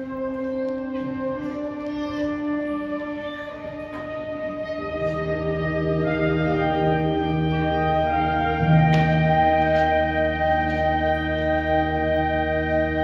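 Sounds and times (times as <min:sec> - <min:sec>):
concert band wind chords: 0:00.0 - 0:13.0.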